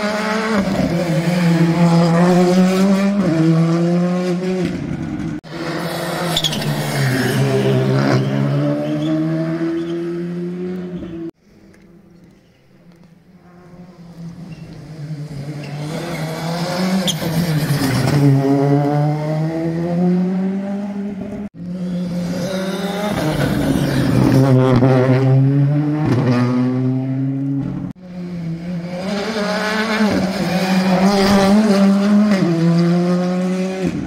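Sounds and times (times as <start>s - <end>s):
rally cars passing at speed: 0.0s - 11.3s, 13.4s - 34.0s.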